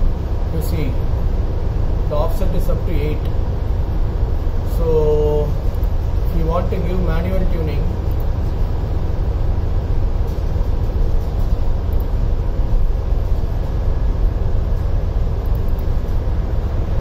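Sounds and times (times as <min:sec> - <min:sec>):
muffled ship engine rumble: 0:00.0 - 0:17.0.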